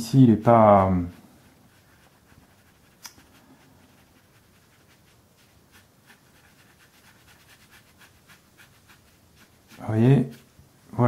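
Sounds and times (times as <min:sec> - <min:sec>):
wet paintbrush swishing on paper: 0:00.1 - 0:10.7.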